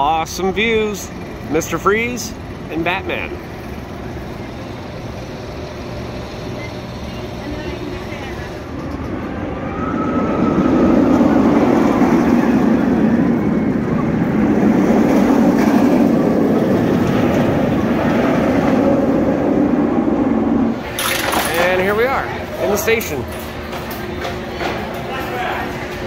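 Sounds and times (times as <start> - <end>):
roller coaster roaring on track: 0.0 - 26.0.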